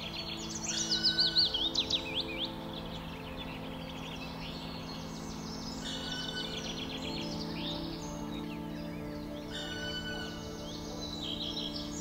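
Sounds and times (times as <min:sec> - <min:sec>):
faint bird chirps: 0:00.0 - 0:12.0
songbird whistling phrase: 0:00.0 - 0:12.0.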